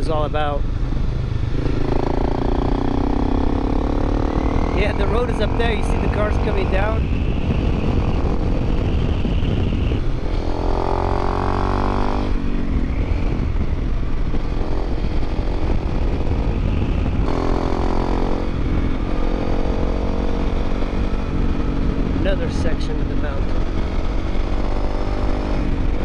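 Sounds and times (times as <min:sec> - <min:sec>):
motorcycle engine running: 0:00.0 - 0:26.0
riding wind rush: 0:00.0 - 0:26.0.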